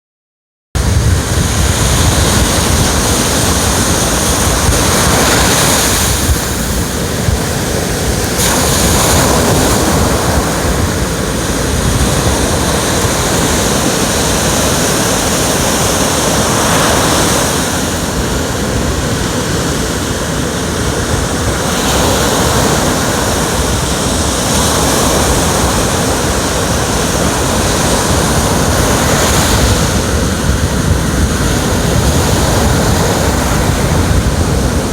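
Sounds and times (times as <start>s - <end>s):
ocean waves washing ashore: 0.8s - 34.9s.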